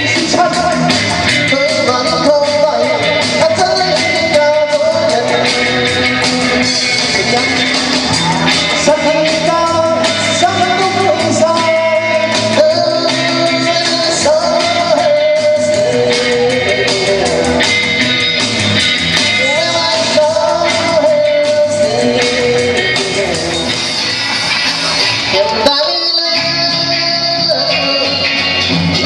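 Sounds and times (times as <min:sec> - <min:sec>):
rock and roll song with vocals: 0:00.0 - 0:29.0.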